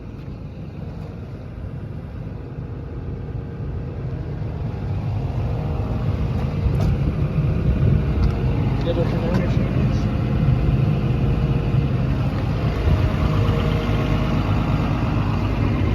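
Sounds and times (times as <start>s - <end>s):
excavator diesel engine rumbling: 0.0s - 15.9s.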